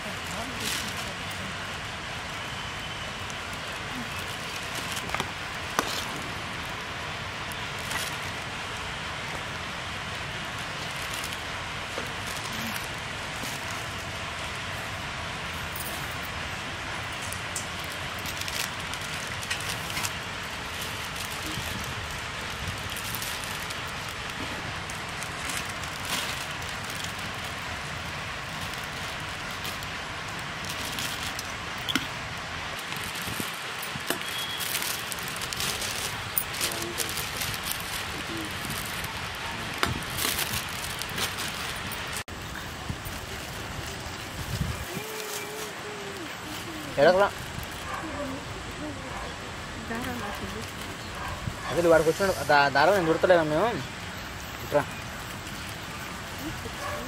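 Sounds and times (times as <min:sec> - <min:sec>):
foil pouches crinkling: 0:00.0 - 0:15.0, 0:15.6 - 0:48.4
steady outdoor hiss: 0:00.0 - 0:57.0.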